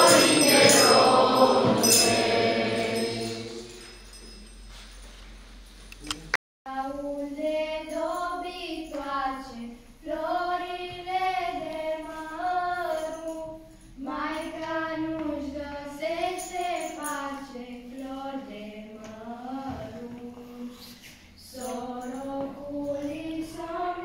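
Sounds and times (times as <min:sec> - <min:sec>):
children singing a carol: 0:00.0 - 0:03.8, 0:06.7 - 0:24.0.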